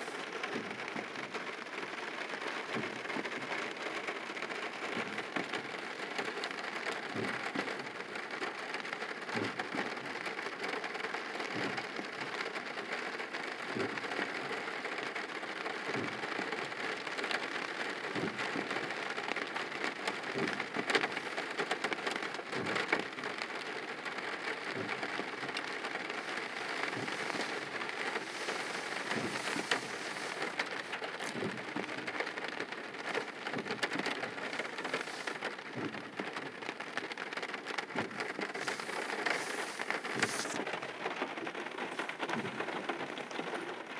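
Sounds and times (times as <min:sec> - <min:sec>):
rain on car roof: 0:00.0 - 0:43.9.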